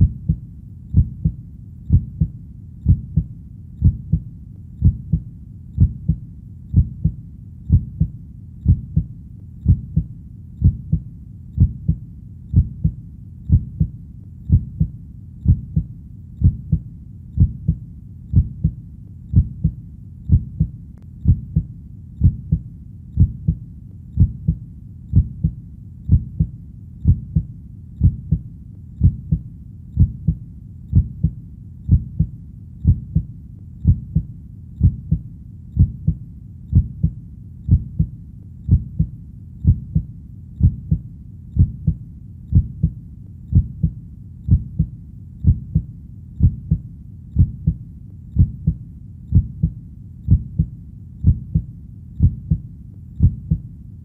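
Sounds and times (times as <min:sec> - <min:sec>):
heartbeat double thumps: 0:00.0 - 0:53.7.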